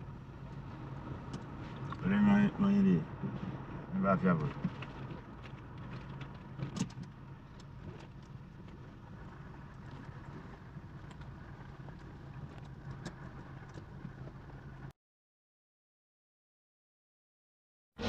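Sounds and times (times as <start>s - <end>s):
car engine humming: 0.0s - 14.9s.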